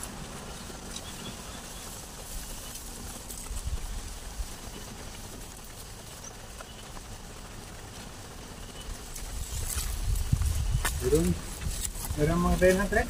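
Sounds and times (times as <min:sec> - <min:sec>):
leaves and food rustling: 0:00.0 - 0:13.0
light drizzle: 0:00.0 - 0:13.0.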